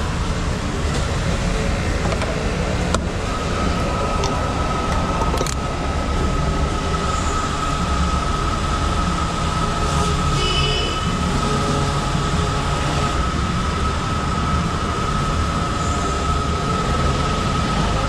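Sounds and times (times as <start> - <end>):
steady high whine: 0.0 - 18.0
tyres and wind rumble: 0.0 - 18.0.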